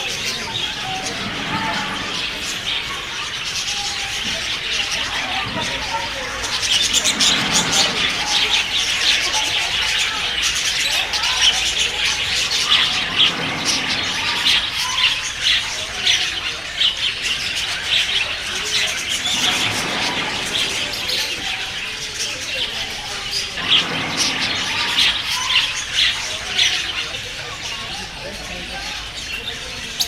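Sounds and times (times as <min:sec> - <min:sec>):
chorus of birds calling: 0:00.0 - 0:30.0.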